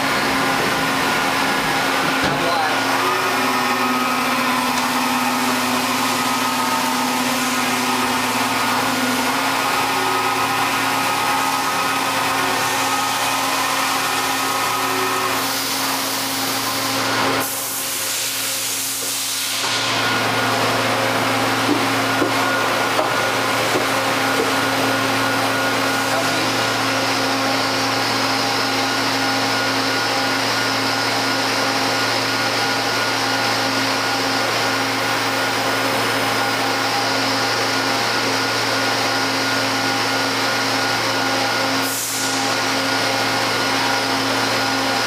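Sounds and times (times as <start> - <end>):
machine motors humming and whining: 0.0 - 45.0.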